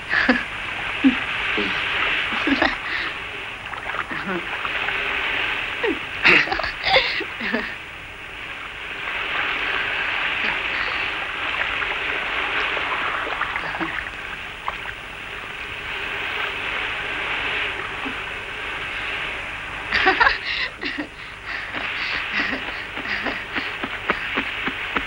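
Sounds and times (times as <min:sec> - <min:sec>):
sea surf washing ashore: 0:00.0 - 0:25.0.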